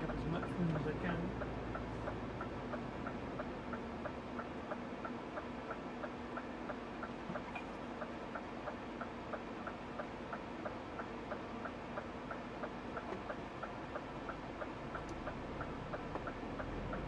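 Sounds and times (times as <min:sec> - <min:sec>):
engine hum: 0:00.0 - 0:17.0
turn signal ticking: 0:00.0 - 0:17.0.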